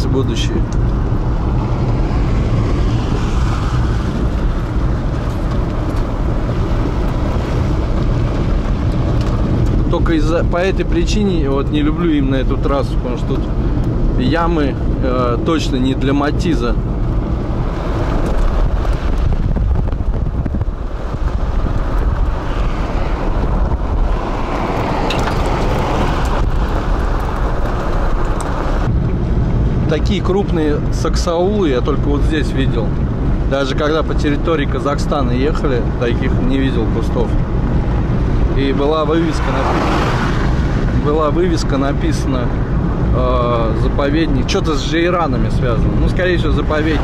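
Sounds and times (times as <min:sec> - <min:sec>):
car interior road rumble: 0:00.0 - 0:47.0
wind noise on microphone: 0:00.0 - 0:47.0.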